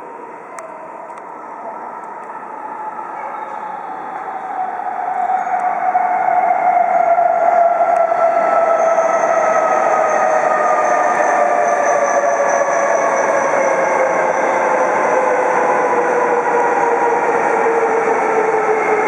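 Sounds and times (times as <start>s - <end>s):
train running noise: 0.0s - 19.0s.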